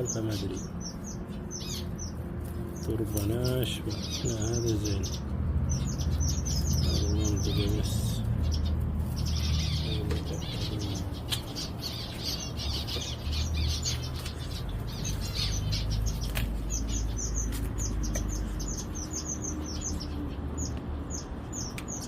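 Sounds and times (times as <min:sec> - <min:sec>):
finches chirping: 0:00.0 - 0:22.0.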